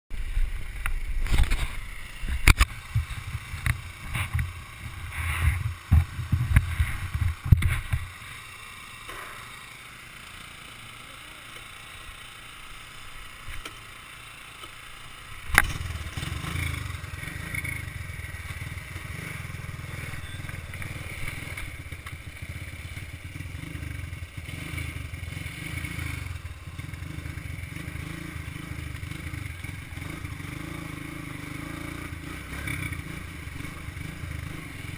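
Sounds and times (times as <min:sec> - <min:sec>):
small atv engine running: 0:00.2 - 0:34.9.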